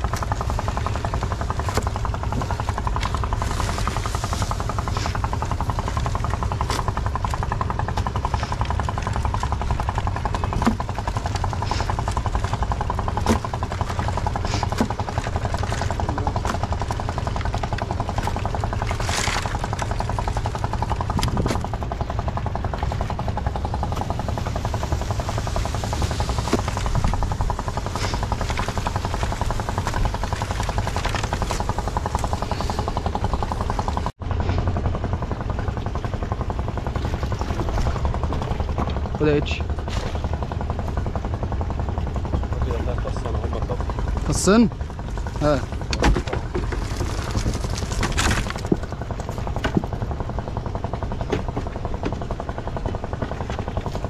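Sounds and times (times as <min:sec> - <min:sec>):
small engine puttering: 0:00.0 - 0:54.0.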